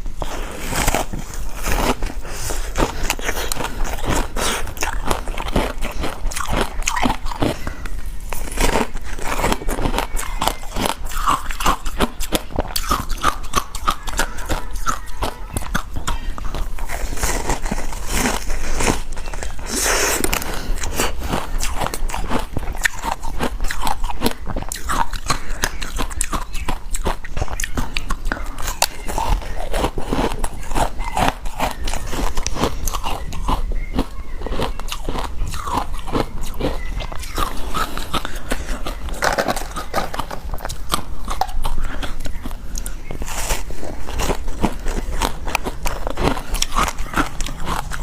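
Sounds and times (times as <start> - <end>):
crunching and chewing ice: 0.0 - 48.0.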